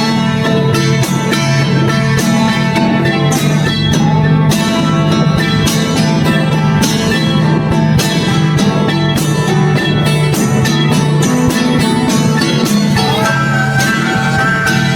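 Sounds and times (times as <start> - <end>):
plucked guitar country music: 0.0 - 14.9.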